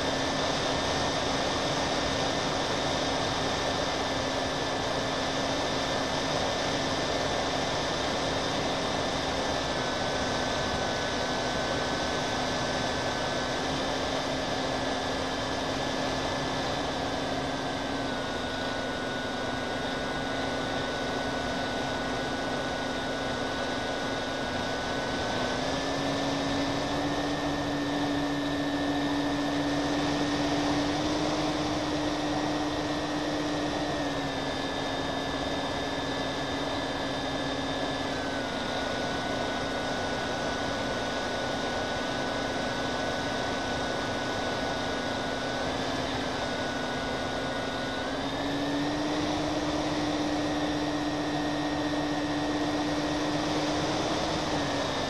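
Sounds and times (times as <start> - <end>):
model plane motors whining: 0.0 - 55.0.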